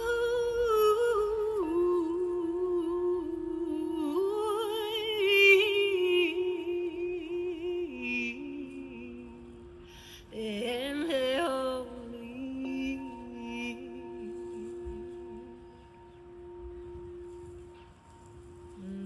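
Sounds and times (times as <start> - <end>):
wordless singing voice: 0.0 - 17.4, 18.5 - 19.0.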